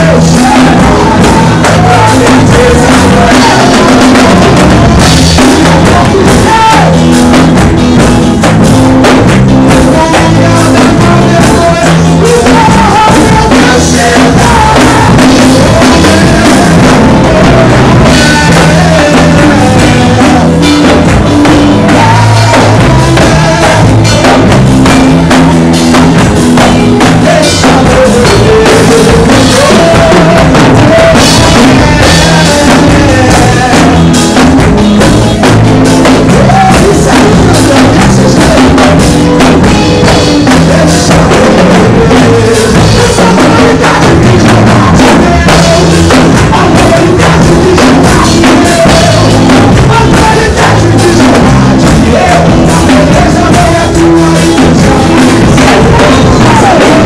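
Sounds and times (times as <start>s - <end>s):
bass guitar: 0.0s - 57.0s
drum kit: 0.0s - 57.0s
electric guitar: 0.0s - 57.0s
man singing into microphone: 0.0s - 57.0s.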